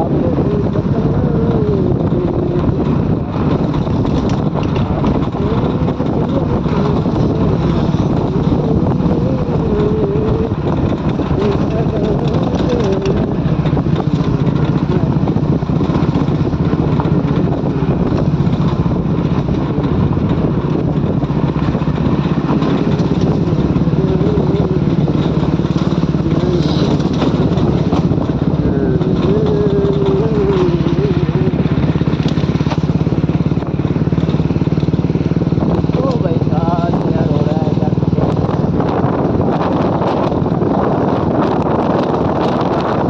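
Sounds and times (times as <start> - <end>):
motorcycle engine droning: 0.0 - 43.0.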